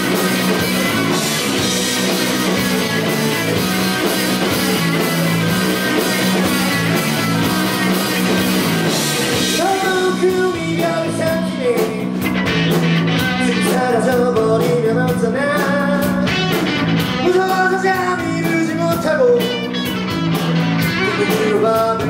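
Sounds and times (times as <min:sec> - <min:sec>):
drum kit: 0:00.0 - 0:22.0
electric guitars: 0:00.0 - 0:22.0
steady bass line: 0:00.0 - 0:22.0.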